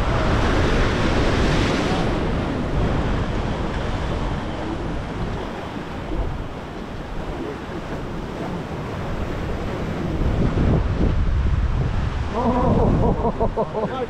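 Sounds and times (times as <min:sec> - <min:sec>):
ocean surf washing: 0:00.0 - 0:14.0
wind on microphone: 0:00.0 - 0:14.0.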